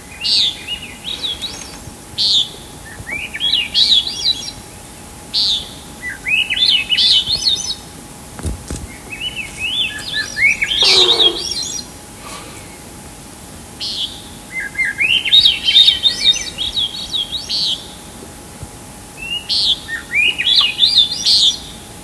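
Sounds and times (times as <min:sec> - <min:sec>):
songbird singing: 0:00.0 - 0:12.9, 0:13.8 - 0:18.2, 0:19.1 - 0:22.0.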